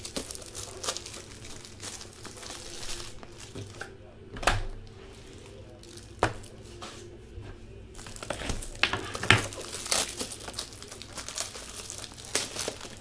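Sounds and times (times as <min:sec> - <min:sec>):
plastic wrapping crinkling: 0:00.0 - 0:04.1, 0:04.7 - 0:06.7, 0:07.9 - 0:13.0.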